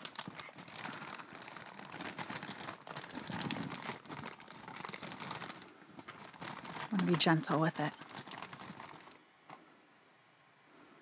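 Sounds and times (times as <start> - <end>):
bag rustling and crinkling: 0.0 - 9.2.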